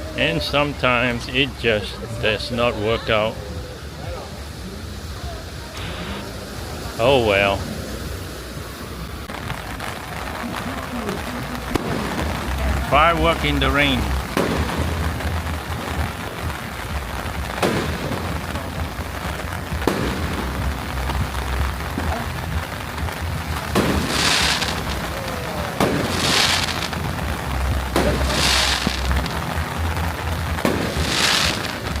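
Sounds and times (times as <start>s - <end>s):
hissing crackle: 0.0s - 32.0s
rain patter: 0.0s - 32.0s
low rumble: 3.4s - 32.0s
fireworks bangs: 5.6s - 32.0s.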